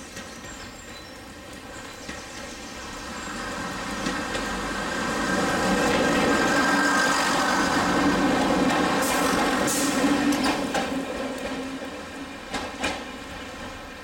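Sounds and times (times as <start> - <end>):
diesel train passing: 0.0 - 14.0.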